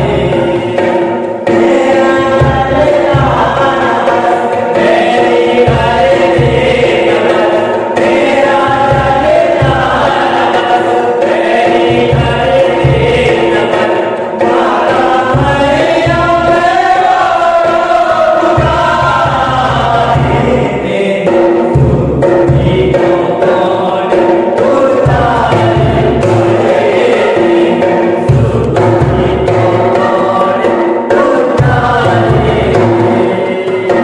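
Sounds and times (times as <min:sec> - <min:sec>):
hand drums: 0:00.0 - 0:34.0
men singing together: 0:00.0 - 0:34.0.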